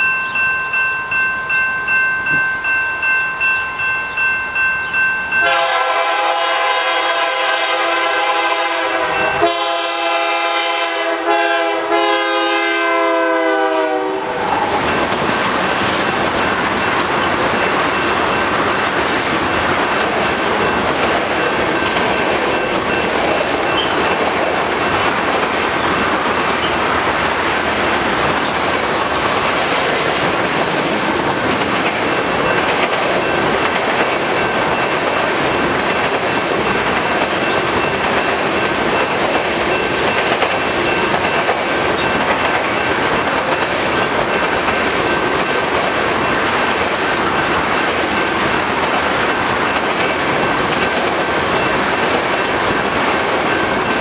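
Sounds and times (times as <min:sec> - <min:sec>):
train wheels running over rails: 0:05.8 - 0:54.0.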